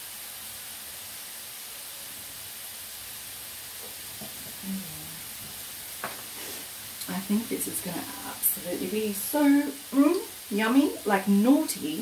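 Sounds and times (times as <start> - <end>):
chips sizzling in oil: 0.0 - 12.0.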